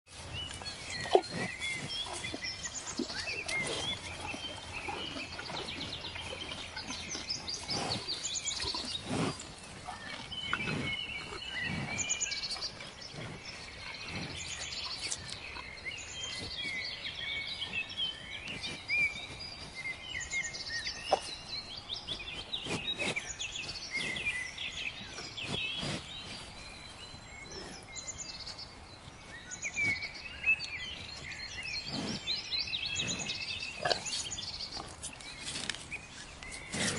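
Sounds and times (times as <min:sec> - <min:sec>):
birds chirping and singing: 0:00.1 - 0:36.9
cattle tearing grass and chewing: 0:00.1 - 0:36.9.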